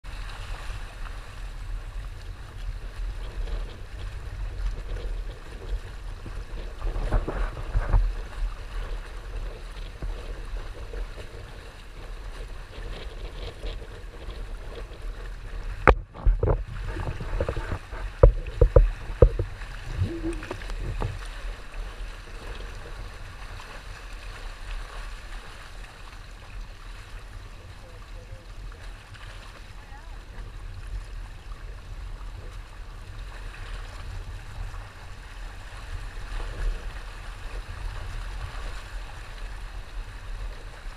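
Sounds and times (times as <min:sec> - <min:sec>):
water splashing along hulls: 0:00.0 - 0:40.9
wind buffeting microphone: 0:01.0 - 0:40.9.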